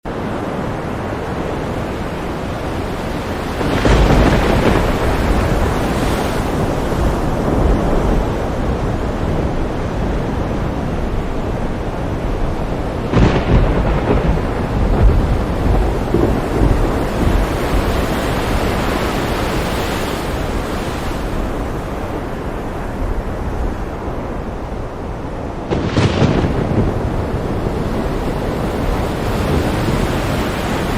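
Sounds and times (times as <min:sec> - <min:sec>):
thunder rumbling: 0:00.1 - 0:30.9.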